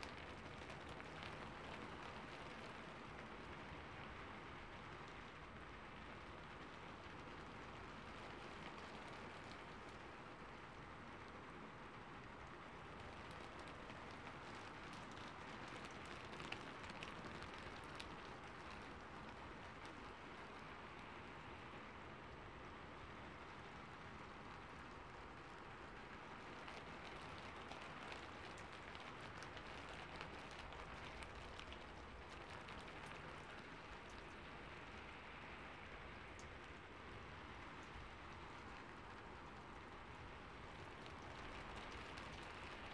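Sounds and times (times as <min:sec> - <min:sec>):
faint background hiss: 0:00.0 - 0:42.9.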